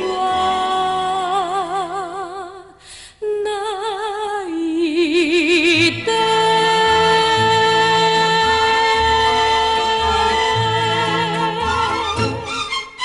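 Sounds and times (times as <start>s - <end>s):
woman singing with vibrato: 0.0s - 12.6s.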